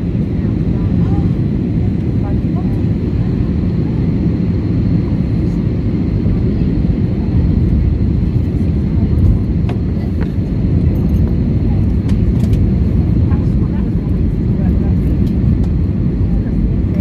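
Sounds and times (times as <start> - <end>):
airplane cabin roar: 0.0 - 17.0.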